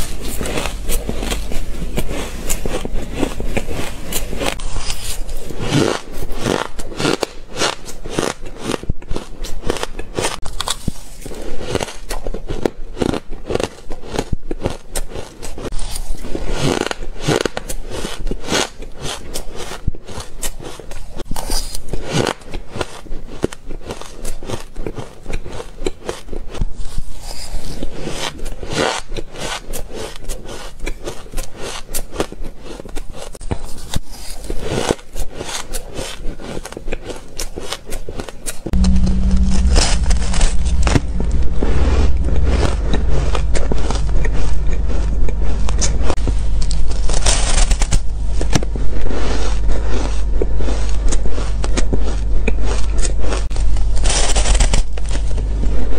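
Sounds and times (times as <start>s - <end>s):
crunching and chewing ice: 0.0s - 38.8s, 44.7s - 55.9s.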